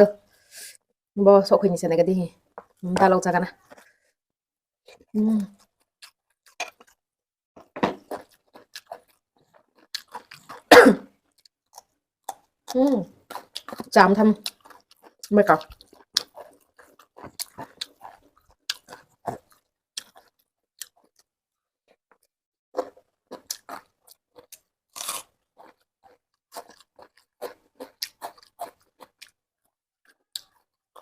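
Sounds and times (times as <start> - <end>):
person chewing crunchy food: 3.6 - 4.1, 4.8 - 31.0.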